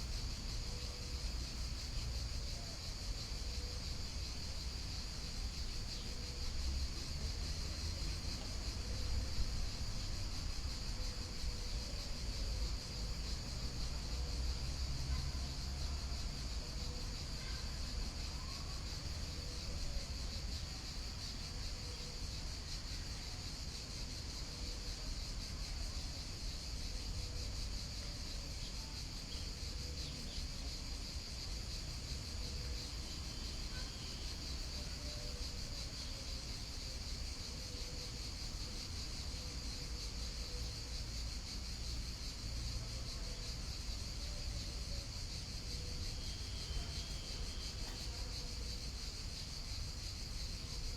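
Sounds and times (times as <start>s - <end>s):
crickets chirring: 0.0s - 50.9s.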